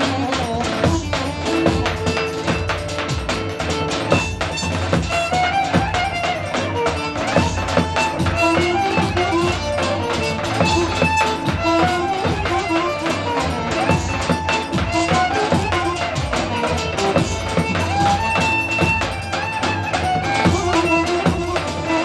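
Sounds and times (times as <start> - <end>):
fast steady drumming: 0.0 - 22.0
lively dance music melody: 0.0 - 22.0.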